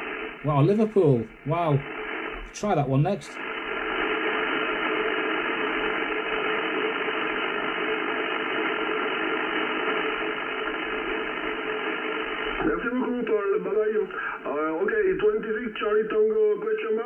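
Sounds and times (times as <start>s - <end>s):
radio band noise hiss: 0.0s - 17.0s.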